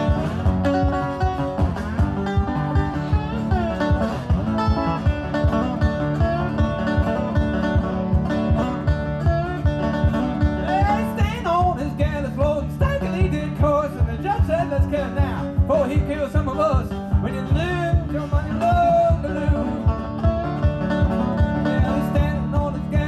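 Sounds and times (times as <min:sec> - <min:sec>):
fingerpicked resonator guitar: 0:00.0 - 0:23.0.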